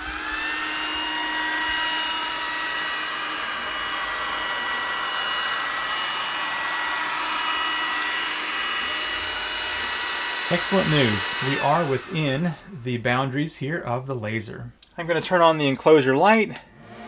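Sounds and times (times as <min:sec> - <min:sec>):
high even whine: 0:00.0 - 0:14.4
fan whirring hiss: 0:00.0 - 0:17.0.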